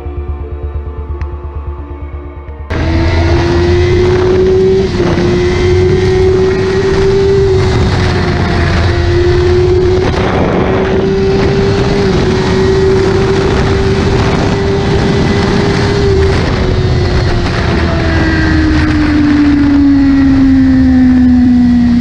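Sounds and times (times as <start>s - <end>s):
motorcycle engine at high revs: 2.7s - 22.0s
wind rushing over microphone: 2.7s - 22.0s.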